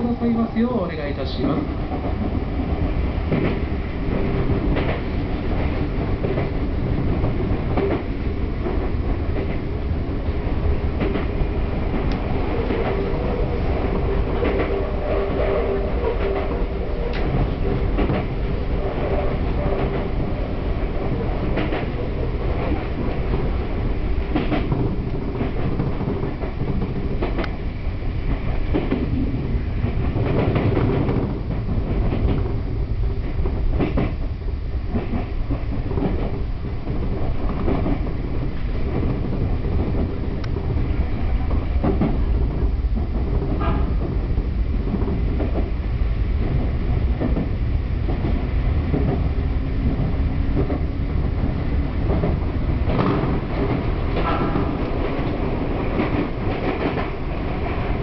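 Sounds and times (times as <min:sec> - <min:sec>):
wheels rumbling on rail: 0:00.0 - 0:58.0
clacks over rail joints: 0:01.6 - 0:09.8, 0:10.6 - 0:13.2, 0:13.9 - 0:20.2, 0:20.9 - 0:23.6, 0:24.2 - 0:27.6, 0:28.2 - 0:34.2, 0:34.9 - 0:45.7, 0:46.4 - 0:58.0.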